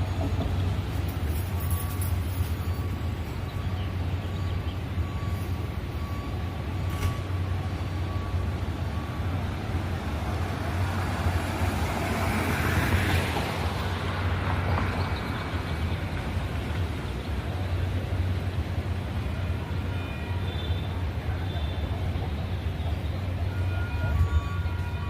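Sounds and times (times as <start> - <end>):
light rail train rumble: 0.0 - 25.0
wheel and rail noise: 0.0 - 25.0.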